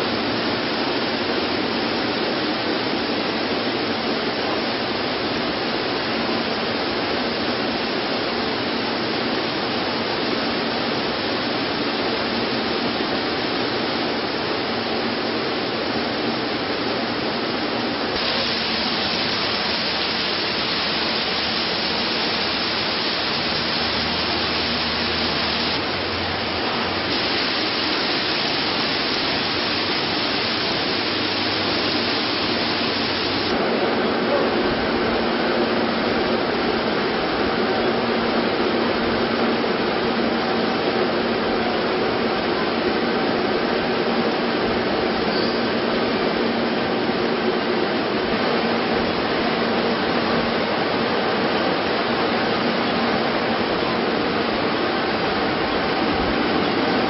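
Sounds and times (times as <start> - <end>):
washing machine with water spraying: 0.0 - 57.0.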